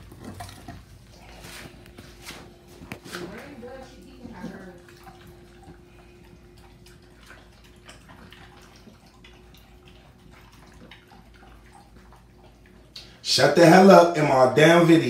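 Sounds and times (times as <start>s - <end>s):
dog chewing: 0.0s - 13.0s
faint steady hum: 0.0s - 15.0s.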